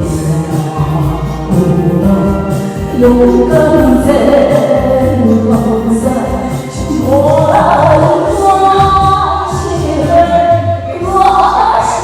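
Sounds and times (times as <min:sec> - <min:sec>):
backing track music: 0:00.0 - 0:12.0
woman singing a ballad: 0:00.0 - 0:12.0.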